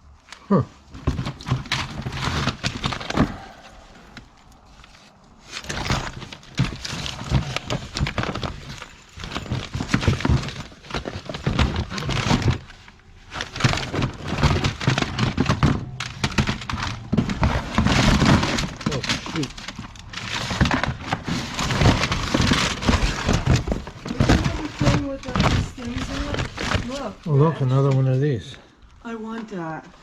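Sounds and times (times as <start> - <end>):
packaging rustling: 0.1 - 28.1
objects knocking and clattering: 0.8 - 27.8.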